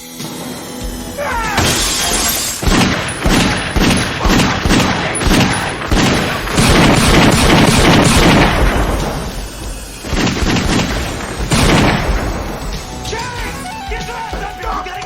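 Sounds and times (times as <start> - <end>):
rapid gunshots: 0.2 - 15.0.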